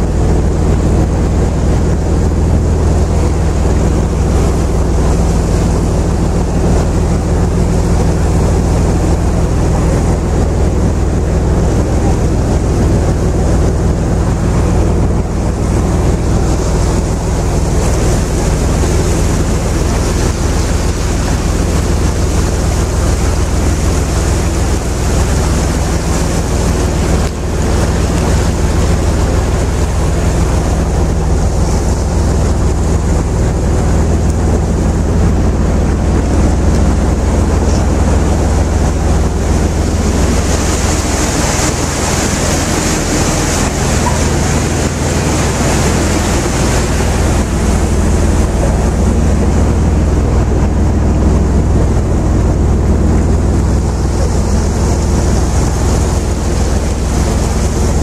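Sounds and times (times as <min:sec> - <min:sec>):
boat engine humming: 0:00.0 - 0:58.0
water rushing past hull: 0:00.0 - 0:58.0
wind on microphone: 0:00.0 - 0:58.0.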